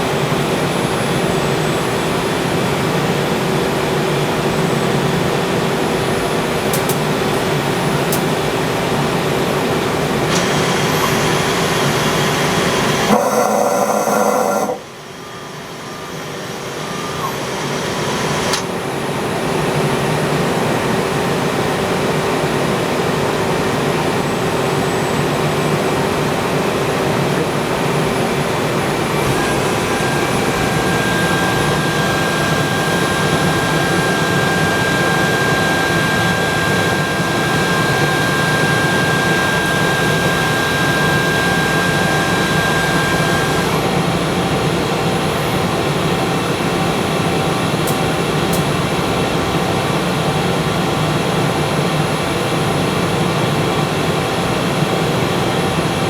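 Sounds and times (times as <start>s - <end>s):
lathe machine humming: 0.0s - 22.8s, 23.4s - 56.0s
high machine whine: 0.0s - 56.0s.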